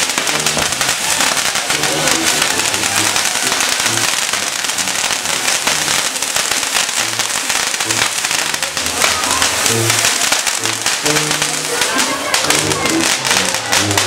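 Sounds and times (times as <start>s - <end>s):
fireworks hissing and crackling: 0.0s - 14.0s.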